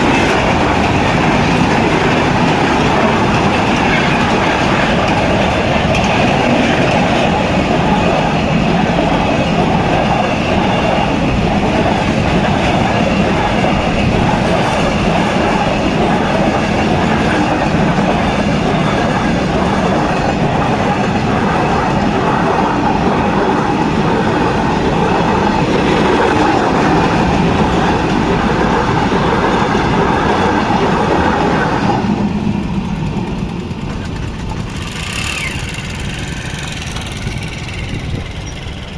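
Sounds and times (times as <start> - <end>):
train clickety-clack over rail joints: 0.0 - 38.9.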